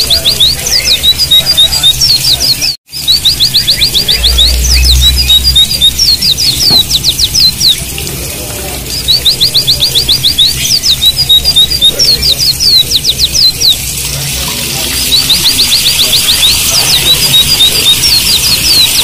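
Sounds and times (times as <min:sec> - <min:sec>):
birds singing high trills: 0:00.0 - 0:19.0.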